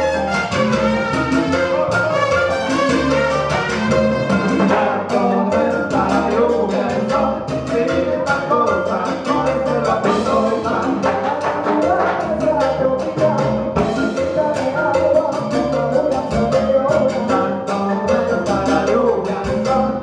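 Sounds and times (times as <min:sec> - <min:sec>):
live band playing latin music: 0:00.0 - 0:20.0.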